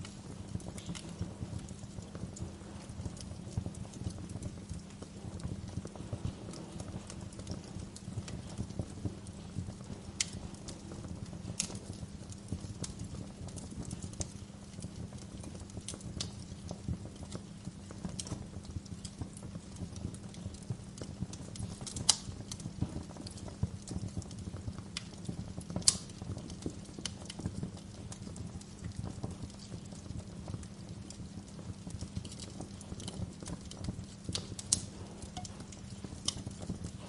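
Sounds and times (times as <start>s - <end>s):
low fire rumble: 0.0s - 37.0s
wood fire crackling: 0.0s - 37.0s.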